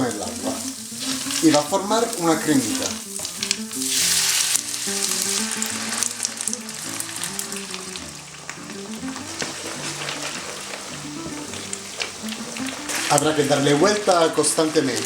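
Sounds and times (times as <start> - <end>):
background music: 0.0 - 15.0
pasta sizzling in a frying pan: 0.0 - 15.0
stirring clicks: 0.1 - 15.0.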